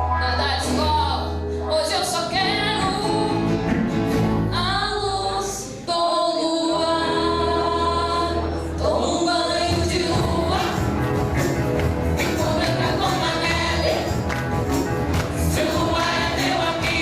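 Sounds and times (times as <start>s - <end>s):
singing with instrumental music: 0.0s - 17.0s.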